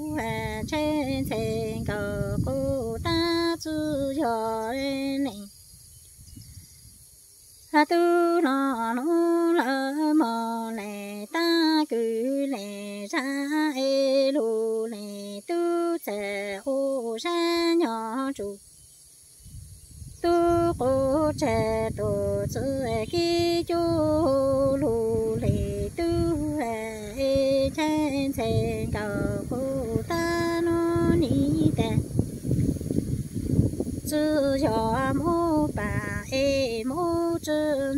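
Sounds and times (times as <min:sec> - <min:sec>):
woman singing unaccompanied: 0:00.0 - 0:06.6, 0:07.4 - 0:37.9.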